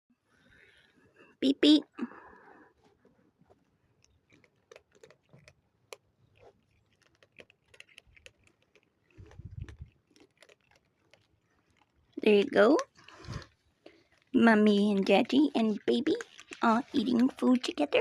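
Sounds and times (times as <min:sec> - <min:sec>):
cats crunching dry food: 0:02.4 - 0:18.0.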